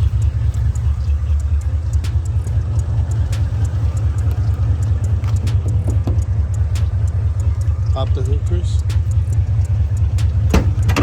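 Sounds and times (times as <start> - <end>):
car engine idling: 0.0 - 11.0
light clicks and knocks: 2.0 - 11.0.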